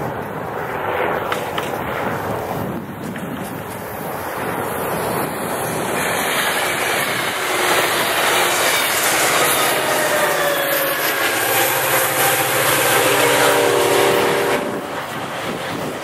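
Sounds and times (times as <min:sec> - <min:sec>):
train wheels rumbling on rails: 0:01.2 - 0:16.0.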